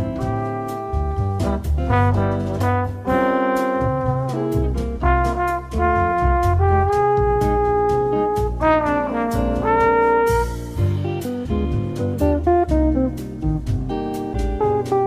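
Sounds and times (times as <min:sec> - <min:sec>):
bossa nova music: 0:00.0 - 0:15.0.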